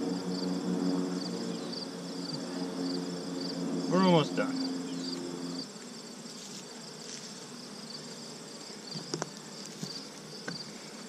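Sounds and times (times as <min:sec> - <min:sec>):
bees humming: 0:00.0 - 0:11.0
crickets chirping: 0:00.0 - 0:11.0
high insect trill: 0:00.0 - 0:11.0.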